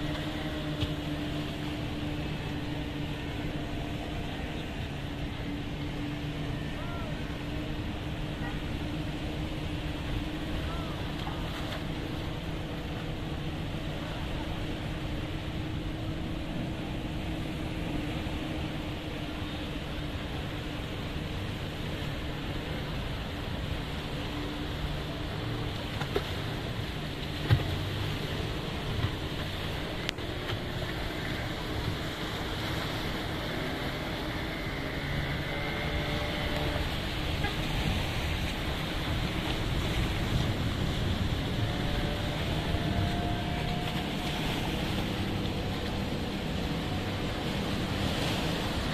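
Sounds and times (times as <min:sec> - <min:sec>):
boat engine humming: 0:00.0 - 0:48.9
choppy sea water washing: 0:00.0 - 0:48.9
wind: 0:00.0 - 0:48.9
waves breaking on rocks: 0:06.4 - 0:48.9.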